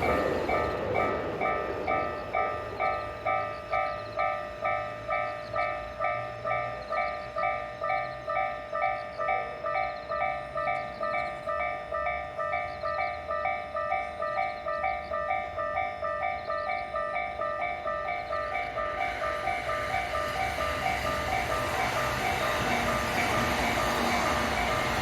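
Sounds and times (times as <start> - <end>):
level crossing warning bell ringing: 0.0 - 25.0
passing train: 0.0 - 25.0.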